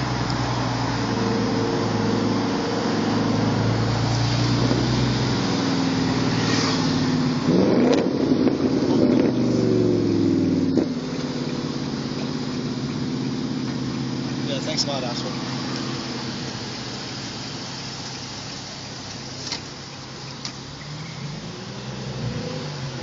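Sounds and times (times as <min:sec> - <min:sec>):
car engine revving through loud exhaust: 0:00.0 - 0:23.0.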